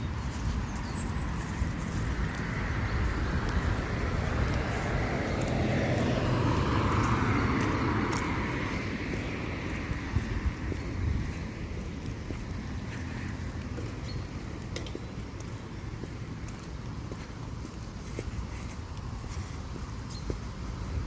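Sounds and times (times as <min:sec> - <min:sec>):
motor vehicle passing by: 0:00.0 - 0:21.0.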